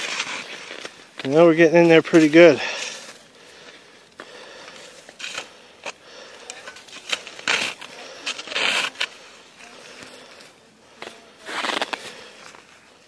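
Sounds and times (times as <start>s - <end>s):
shovel scraping packed snow: 0.0s - 12.9s.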